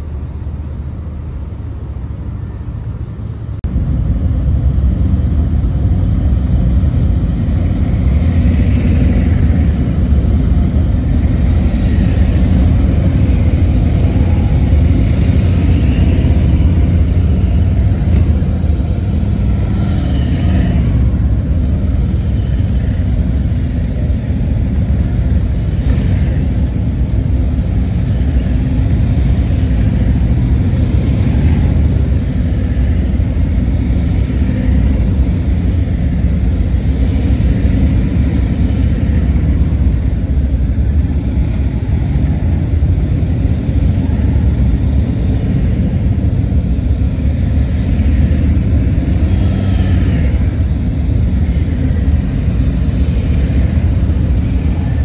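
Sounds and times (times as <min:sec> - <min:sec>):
motorcycle engines rumbling: 0:00.0 - 0:55.0.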